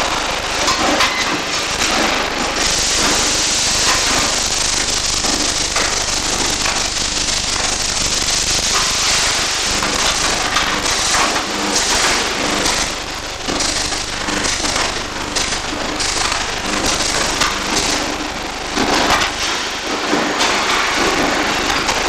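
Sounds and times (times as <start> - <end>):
welding arc crackling: 0.0 - 22.0.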